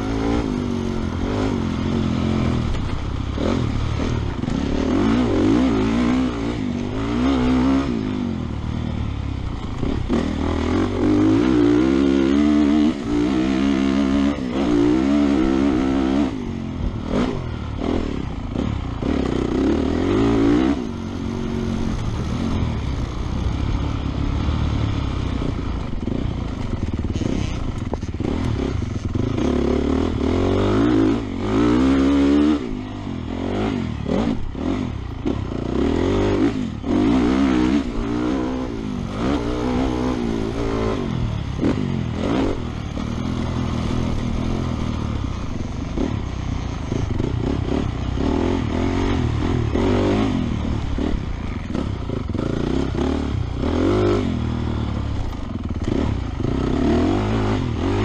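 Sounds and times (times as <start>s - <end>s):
motocross engine revving: 0.0s - 8.6s, 9.4s - 23.2s, 23.8s - 58.0s.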